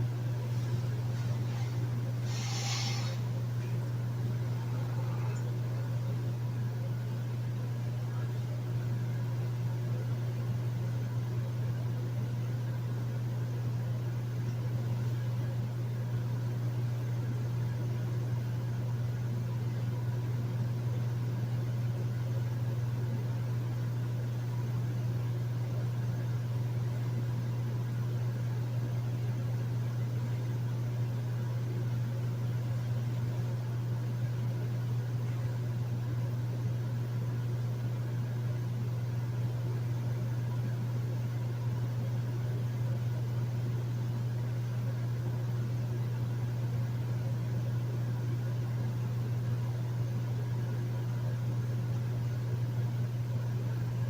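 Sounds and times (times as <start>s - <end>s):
air conditioner humming: 0.0s - 54.0s.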